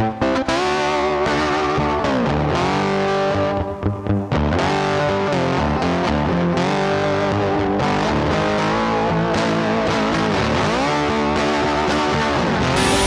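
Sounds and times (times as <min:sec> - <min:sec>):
electric guitar music: 0:00.0 - 0:13.0.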